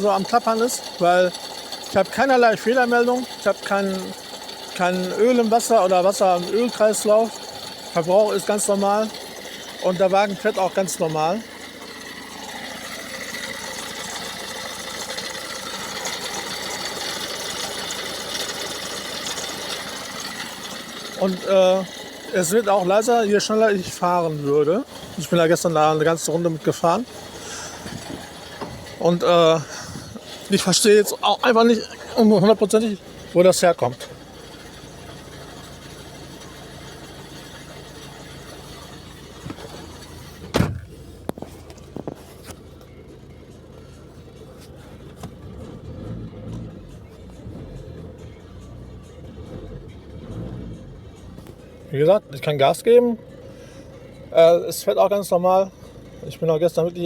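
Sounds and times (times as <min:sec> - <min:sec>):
diesel engine idling with rattle: 0:00.0 - 0:57.0.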